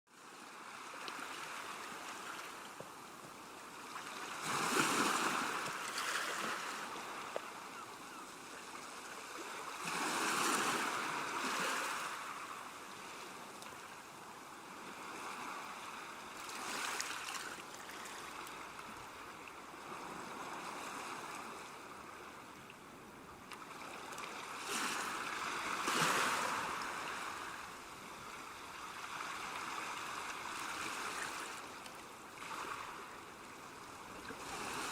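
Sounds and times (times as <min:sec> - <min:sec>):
sea waves breaking on shore: 0:00.2 - 0:22.6, 0:23.4 - 0:34.9.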